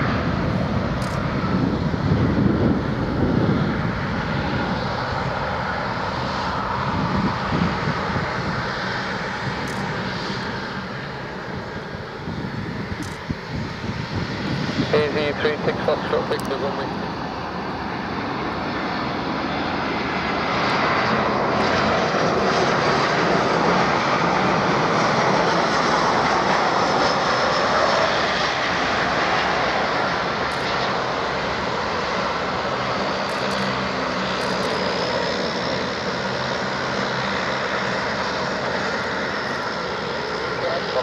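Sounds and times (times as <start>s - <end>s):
jet engine roar: 0.0s - 41.0s.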